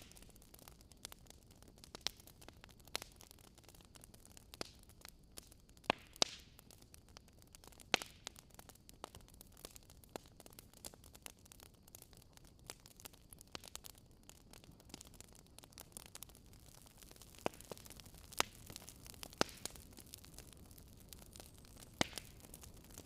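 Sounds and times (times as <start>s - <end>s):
faint steady hiss: 0.0s - 23.0s
wood fire crackling: 0.0s - 23.0s.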